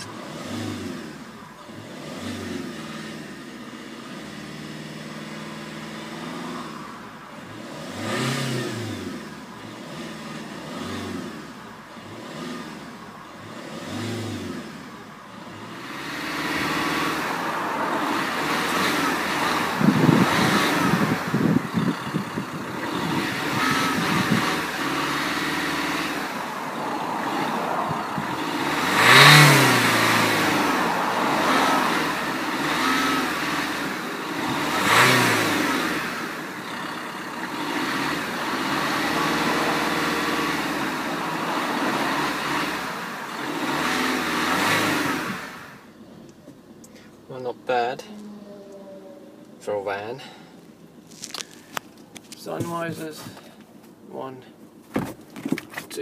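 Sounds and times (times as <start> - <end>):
van engine idling and revving: 0.0 - 56.0.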